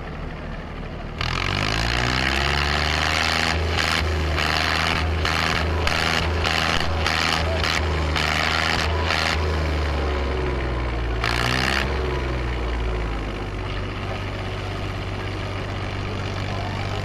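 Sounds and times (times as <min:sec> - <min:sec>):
diesel tractor engines at full throttle: 0:00.0 - 0:17.0.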